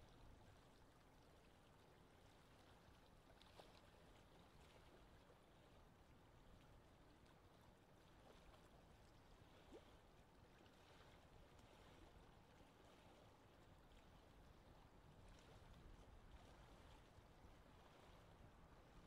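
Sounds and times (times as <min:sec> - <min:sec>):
gentle wind: 0:00.0 - 0:19.0
lake water washing: 0:00.0 - 0:19.0.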